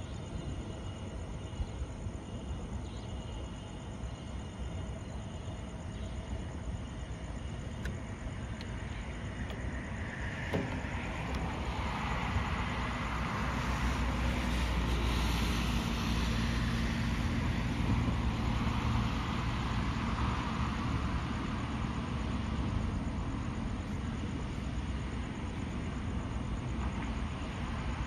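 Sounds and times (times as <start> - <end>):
distant train rolling slowly: 0.0 - 28.0
road traffic rumble: 0.0 - 28.0.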